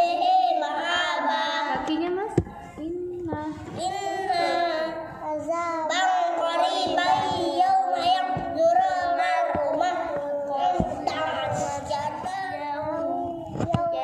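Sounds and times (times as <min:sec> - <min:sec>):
children chanting verses: 0:00.0 - 0:02.7, 0:03.3 - 0:14.0.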